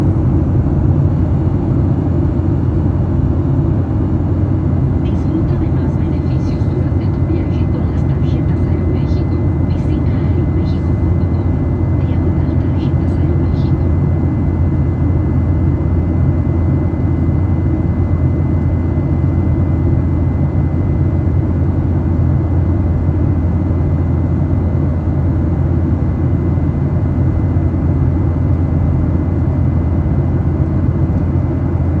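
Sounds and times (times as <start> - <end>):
airplane cabin drone: 0.0 - 32.0.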